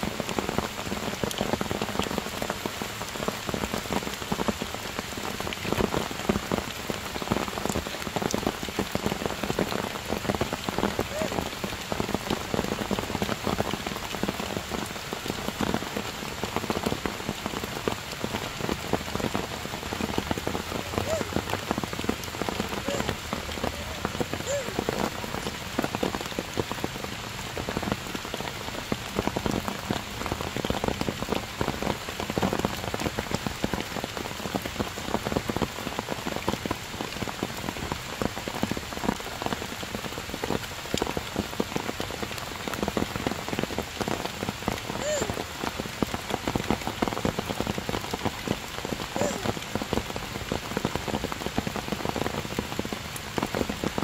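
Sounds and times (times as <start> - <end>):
heavy rain on stone and leaves: 0.0 - 54.0.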